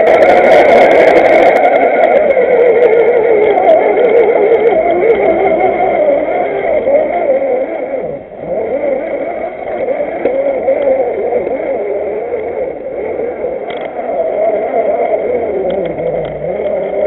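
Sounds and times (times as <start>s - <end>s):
toy car electric motor whining: 0.0s - 17.0s.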